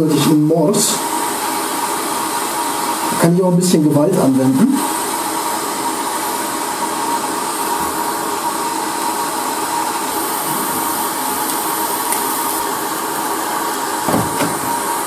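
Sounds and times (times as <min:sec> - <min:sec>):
hot-air blower rushing: 0:00.0 - 0:15.0
thin steady whine: 0:00.0 - 0:15.0.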